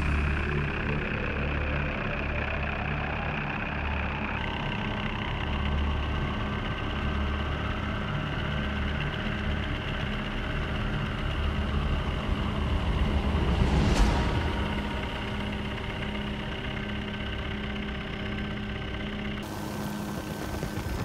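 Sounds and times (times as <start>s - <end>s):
helicopter engine and rotor drone: 0.0s - 21.0s.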